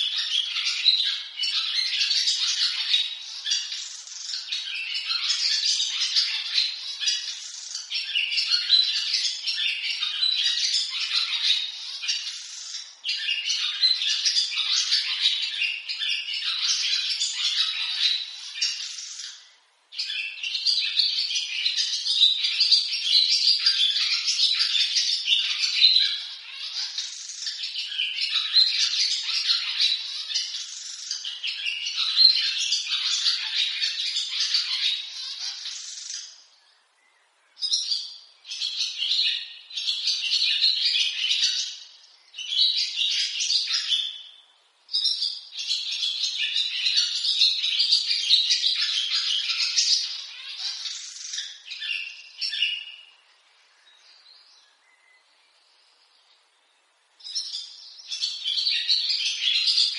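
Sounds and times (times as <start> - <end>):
swallow twittering: 0.0 - 44.3, 44.9 - 54.2.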